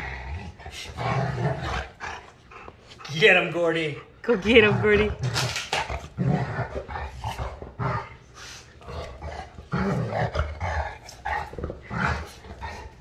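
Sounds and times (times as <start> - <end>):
dog growling: 0.0 - 3.3, 4.3 - 13.0.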